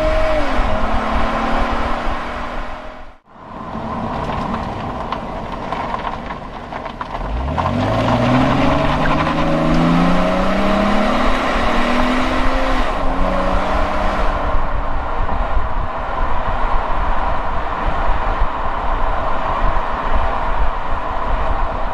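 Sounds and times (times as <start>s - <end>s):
car exhaust accelerating: 0.0s - 21.9s
road noise: 0.0s - 21.9s.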